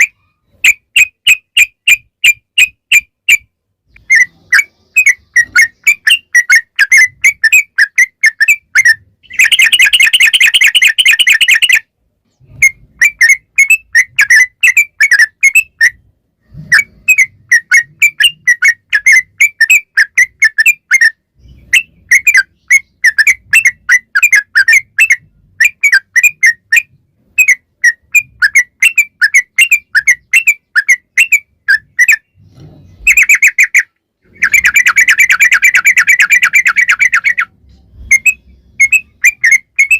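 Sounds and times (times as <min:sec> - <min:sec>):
bird chirping: 0:00.0 - 0:39.9
bird fast trill: 0:00.0 - 0:39.9.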